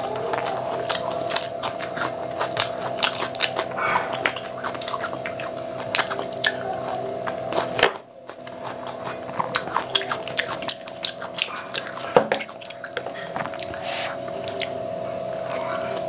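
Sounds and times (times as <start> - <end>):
chewing and wet mouth sounds: 0.0 - 16.0.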